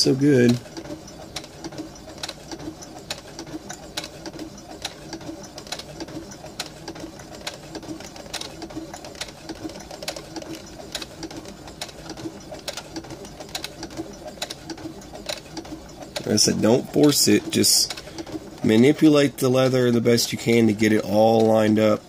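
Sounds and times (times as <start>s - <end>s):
sharp stitch clicks: 0.0s - 21.8s
sewing machine stitching leather: 0.0s - 22.0s.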